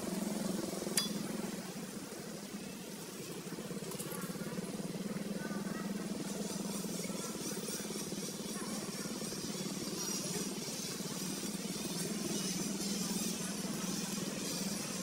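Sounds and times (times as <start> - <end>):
motor hum with flutter: 0.0 - 15.0.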